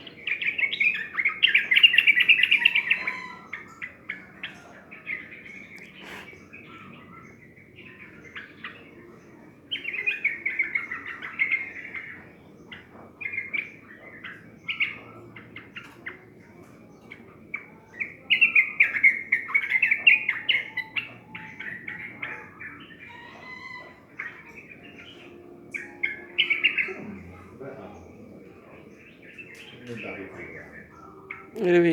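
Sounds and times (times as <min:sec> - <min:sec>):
bulbul chirping and singing: 0:00.0 - 0:31.9.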